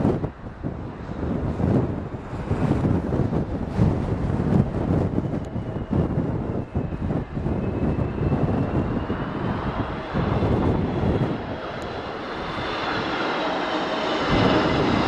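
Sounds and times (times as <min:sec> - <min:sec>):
jet engines landing: 0:00.0 - 0:15.0
wind buffeting microphone: 0:00.0 - 0:15.0.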